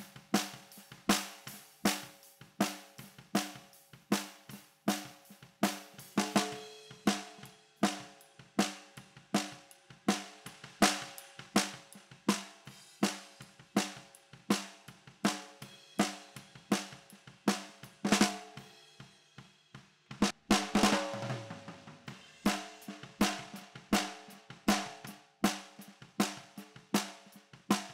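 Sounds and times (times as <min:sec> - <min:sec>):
acoustic drum kit groove: 0:00.0 - 0:27.9.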